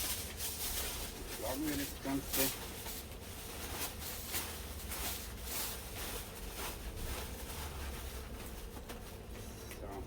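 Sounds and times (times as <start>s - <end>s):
aluminium foil crinkling: 0.0s - 9.3s.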